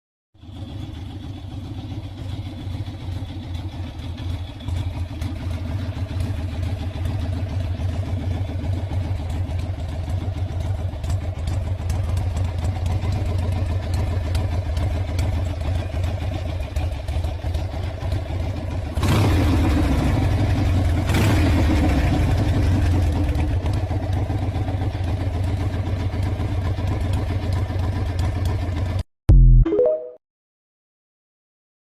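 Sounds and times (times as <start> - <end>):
motorcycle engine idling and revving: 0.4 - 29.1.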